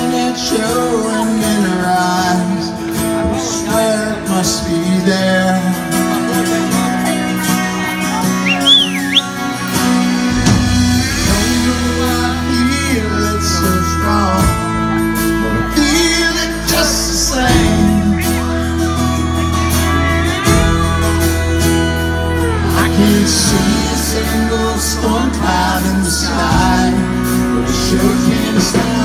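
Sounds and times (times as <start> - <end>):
country band playing live: 0.0 - 29.0.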